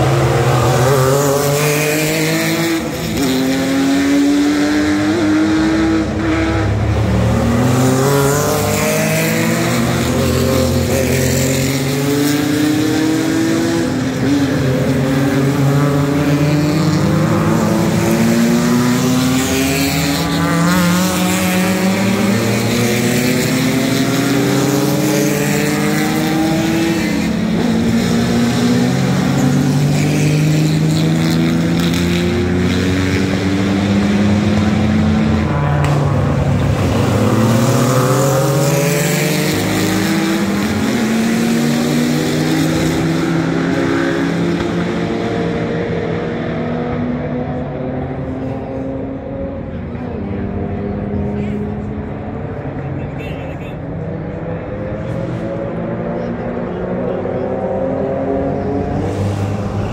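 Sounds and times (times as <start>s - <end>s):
racing car engines accelerating: 0.0s - 59.9s.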